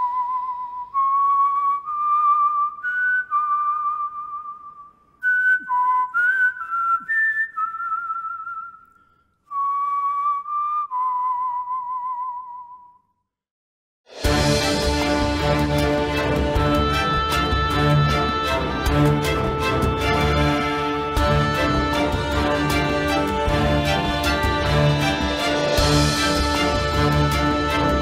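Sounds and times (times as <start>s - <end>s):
whistled melody: 0.0s - 13.3s, 14.2s - 28.0s.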